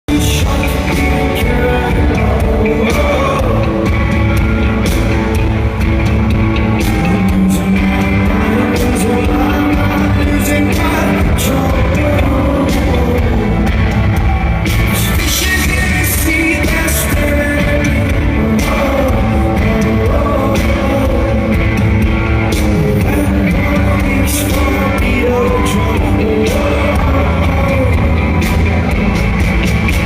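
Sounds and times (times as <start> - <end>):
lead vocal singing: 0.1 - 29.2
rock band playing live: 0.1 - 30.0.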